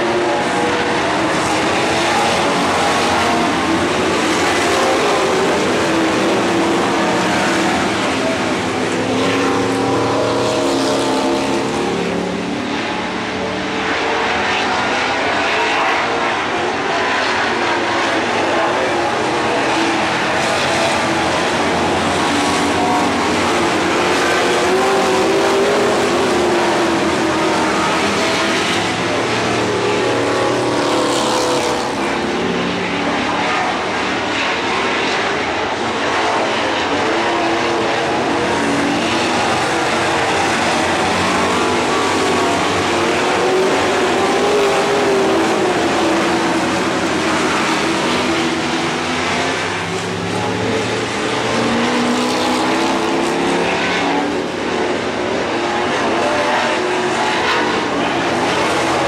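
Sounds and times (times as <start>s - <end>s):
racing car engines: 0.0s - 59.0s.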